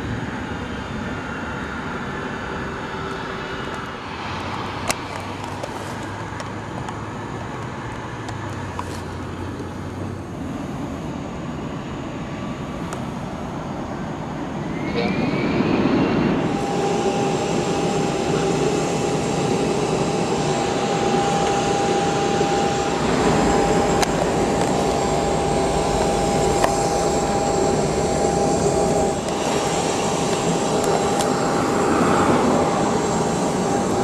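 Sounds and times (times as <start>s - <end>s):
machine whine and hum: 0.0s - 34.0s.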